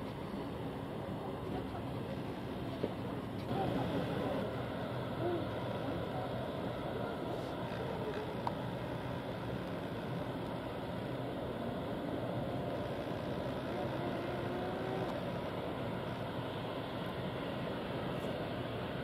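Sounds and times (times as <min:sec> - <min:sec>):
distant turboprop engines droning: 0:00.0 - 0:19.0.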